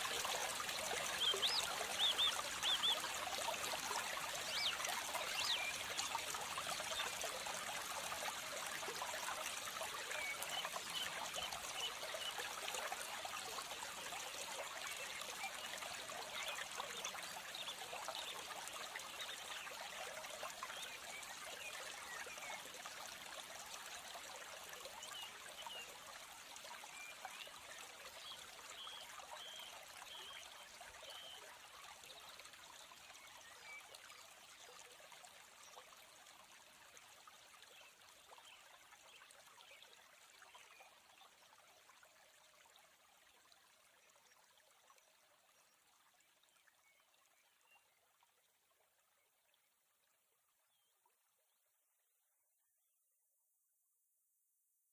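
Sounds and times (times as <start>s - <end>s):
stream running water: 0.0s - 51.6s.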